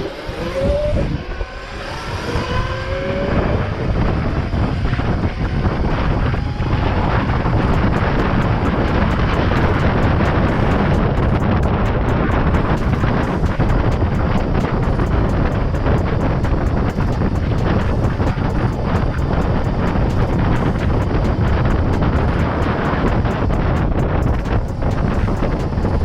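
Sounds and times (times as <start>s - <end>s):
electric motor whine: 0.0s - 26.0s
wind rushing over microphone: 0.0s - 26.0s.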